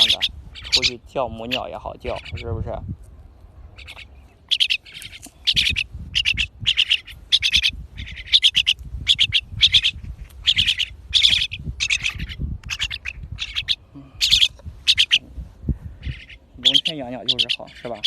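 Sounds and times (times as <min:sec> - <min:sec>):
birds chirping harshly: 0:00.0 - 0:18.0.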